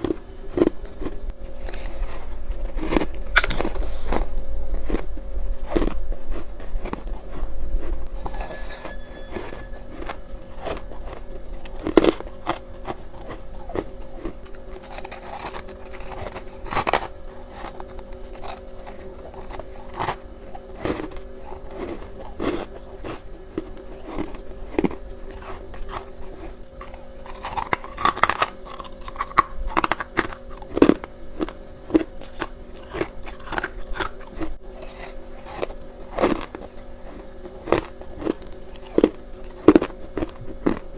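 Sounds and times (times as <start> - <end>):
frost crunching being chewed: 0.0 - 40.9
steady hum: 0.0 - 40.9.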